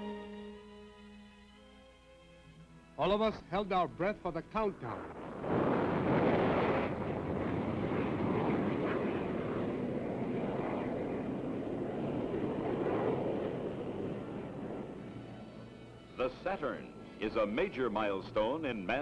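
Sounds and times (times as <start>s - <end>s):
rocket engines roaring: 3.0s - 19.0s.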